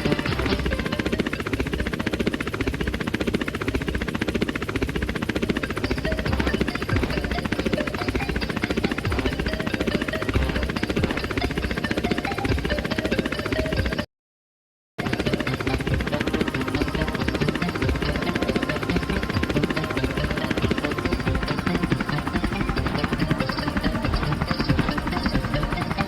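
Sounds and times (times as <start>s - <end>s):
helicopter rotor chopping: 0.0s - 14.1s, 15.0s - 26.0s.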